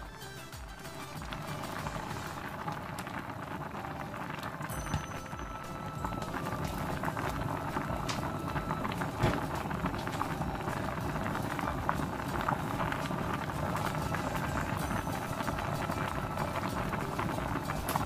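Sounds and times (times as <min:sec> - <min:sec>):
thick stew boiling and popping: 0:00.0 - 0:18.0.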